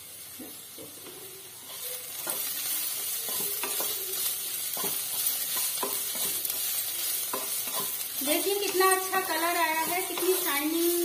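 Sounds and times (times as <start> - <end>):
vegetables sizzling in a pan: 0.0 - 11.0
spatula scraping a pan: 1.6 - 11.0.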